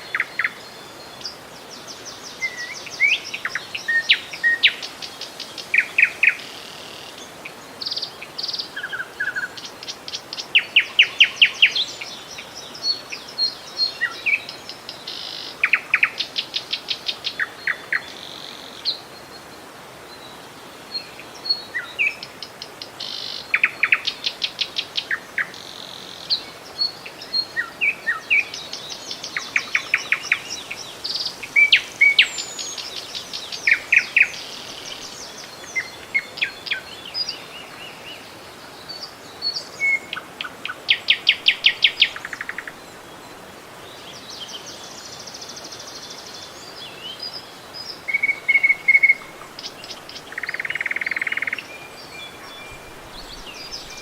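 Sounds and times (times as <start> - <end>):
flowing river water: 0.0 - 54.0
songbirds chirping and trilling: 0.0 - 54.0.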